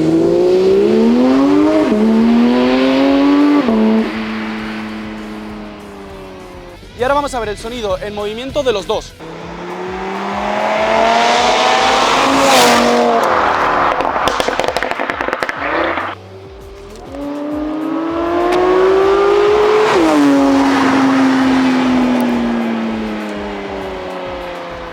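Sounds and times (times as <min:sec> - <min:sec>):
car engine accelerating: 0:00.0 - 0:24.9
car engine revving: 0:00.0 - 0:24.9
exhaust pops and crackles: 0:00.0 - 0:24.9.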